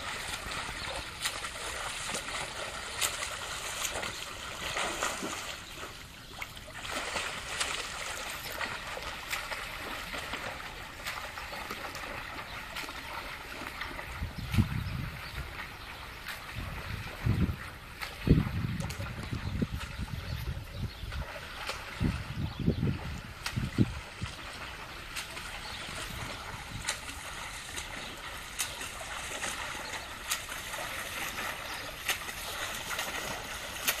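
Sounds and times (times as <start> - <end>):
pool water splashing and lapping: 0.0 - 34.0.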